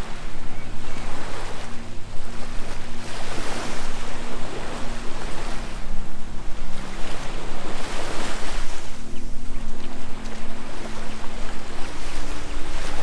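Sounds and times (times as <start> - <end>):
waves washing up a beach: 0.0 - 13.0.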